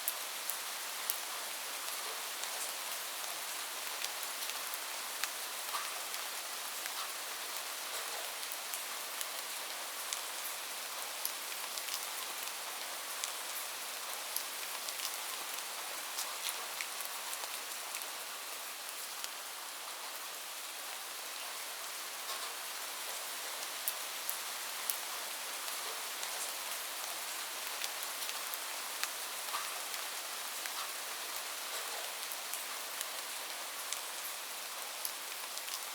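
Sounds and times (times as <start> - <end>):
light rain falling: 0.0 - 35.9.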